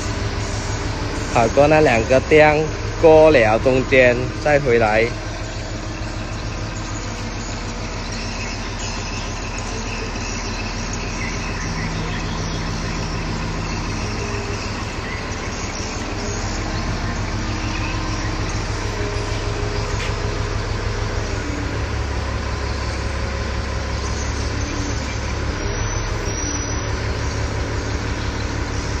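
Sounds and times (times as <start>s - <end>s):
crane diesel engine running: 0.0s - 29.0s.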